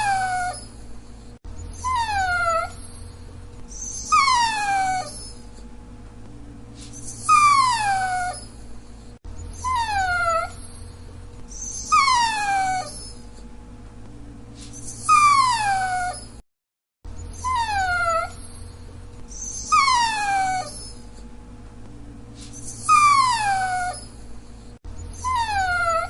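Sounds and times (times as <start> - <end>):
dog whining: 0.0 - 5.7, 6.8 - 13.5, 14.6 - 16.4, 17.2 - 21.3, 22.4 - 26.0.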